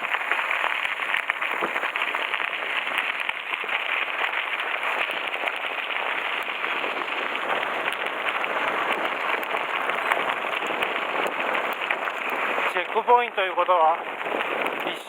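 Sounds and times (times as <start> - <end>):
bike tyres crackling on gravel: 0.0 - 15.0.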